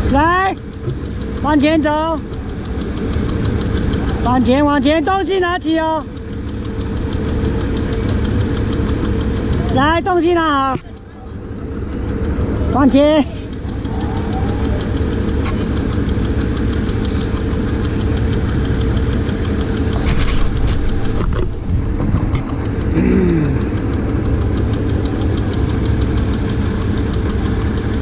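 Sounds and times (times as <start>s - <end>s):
hovercraft engine humming: 0.0s - 28.0s.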